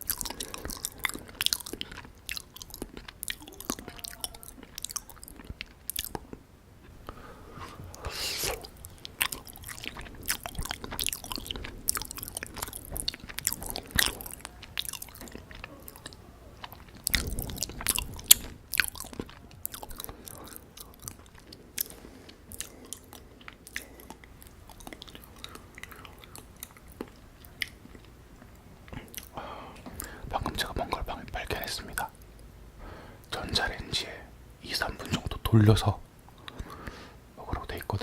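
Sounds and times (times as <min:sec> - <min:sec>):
wet chewing with clicks: 0:00.0 - 0:07.2, 0:07.9 - 0:32.5.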